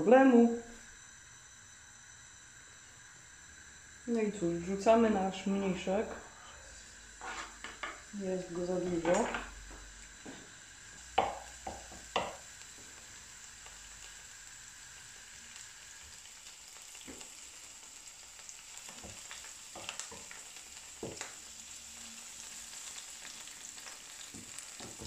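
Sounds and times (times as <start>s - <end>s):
greens sizzling in hot oil: 0.2s - 25.0s.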